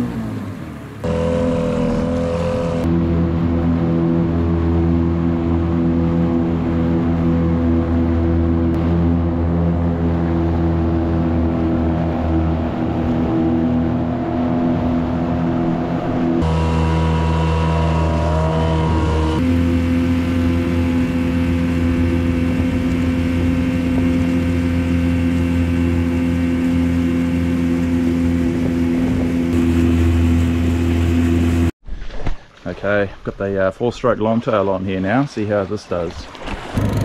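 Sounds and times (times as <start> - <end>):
outboard motor at full throttle: 0.0 - 31.8, 36.4 - 37.0.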